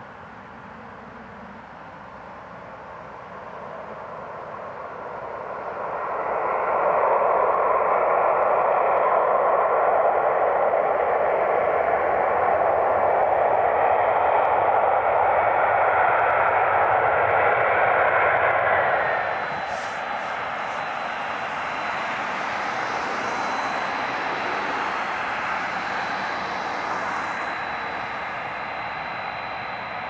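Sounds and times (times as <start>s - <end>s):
jet engines at takeoff power: 0.0s - 30.0s.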